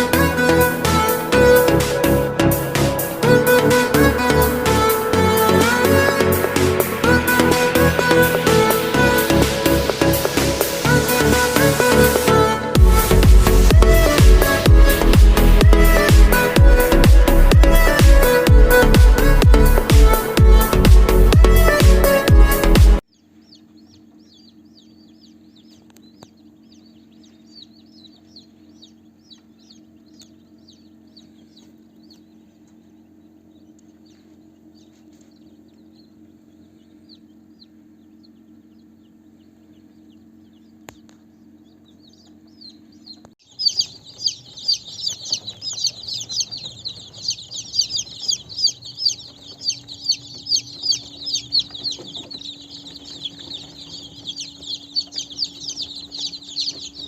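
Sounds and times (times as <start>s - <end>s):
chicks peeping: 0.0s - 57.0s
steady low hum: 0.0s - 57.0s.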